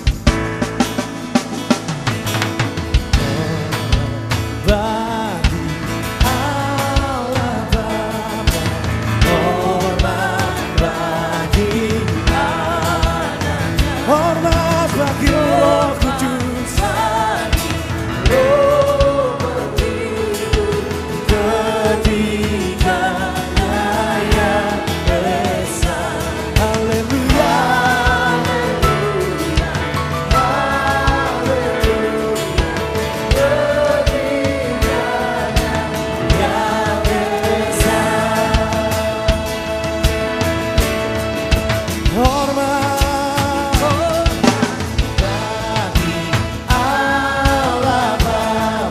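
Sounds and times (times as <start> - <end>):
live band with singing: 0.0 - 48.9.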